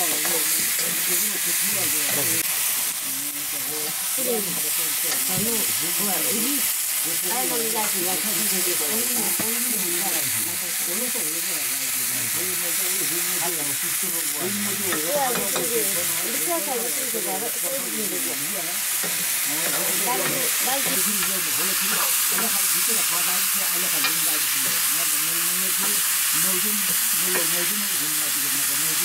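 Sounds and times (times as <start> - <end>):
chicken sizzling in a wok: 0.0 - 29.0.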